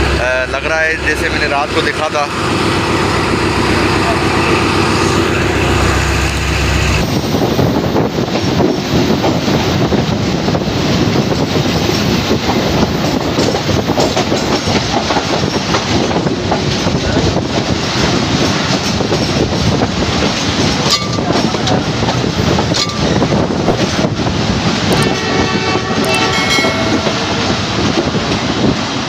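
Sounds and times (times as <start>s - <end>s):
train coaches clattering: 0.0s - 29.0s
train wheels rattling over rails: 0.0s - 29.0s.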